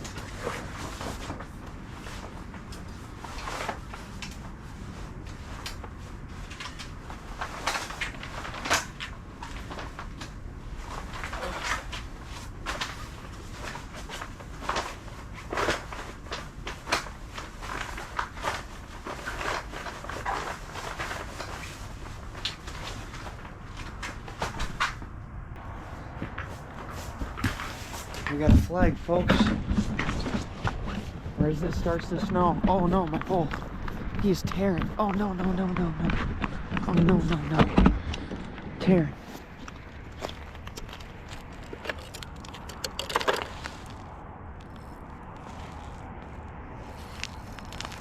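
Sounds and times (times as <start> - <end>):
gear being handled and packed: 0.0 - 25.0, 25.6 - 38.3, 38.9 - 44.1
low background rumble: 0.0 - 48.0.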